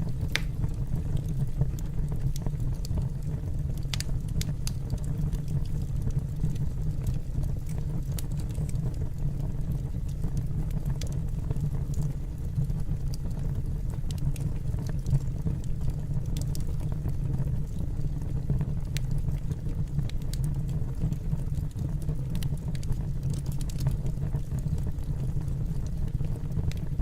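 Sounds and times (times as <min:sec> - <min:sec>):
fire crackles and pops: 0:00.0 - 0:27.0
wood fire rumble: 0:00.0 - 0:27.0.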